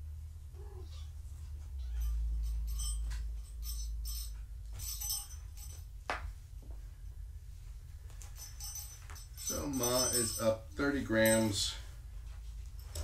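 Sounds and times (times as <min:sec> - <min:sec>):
low steady hum: 0:00.0 - 0:13.0
small bells jingling: 0:01.4 - 0:13.0.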